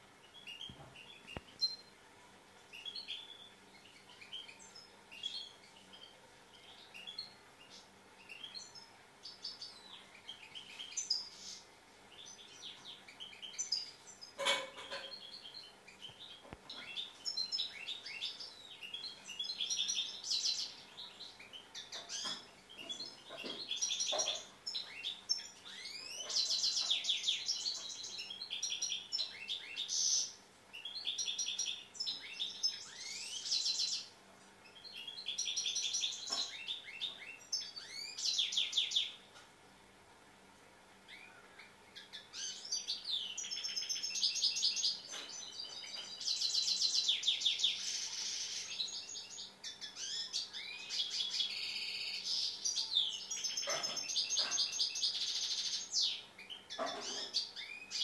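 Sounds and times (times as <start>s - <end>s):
bird twittering and trilling: 2.7s - 34.1s, 34.7s - 39.3s, 41.1s - 58.0s.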